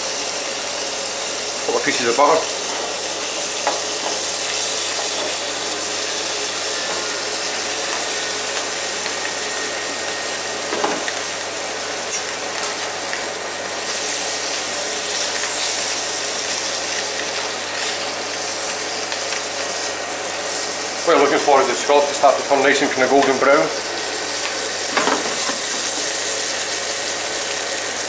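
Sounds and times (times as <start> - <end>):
scallops sizzling in frying pan: 0.0 - 28.0.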